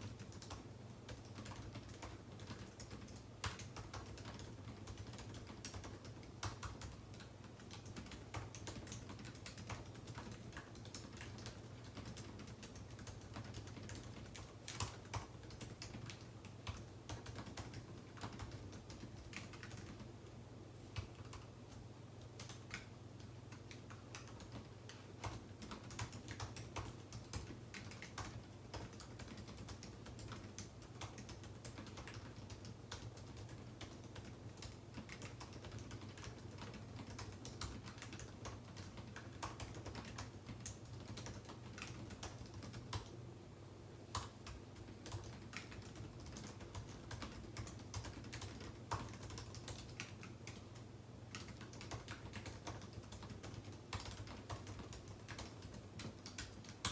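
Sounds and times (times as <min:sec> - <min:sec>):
computer keyboard typing: 0:00.0 - 0:20.2, 0:20.9 - 0:43.2, 0:44.0 - 0:56.9.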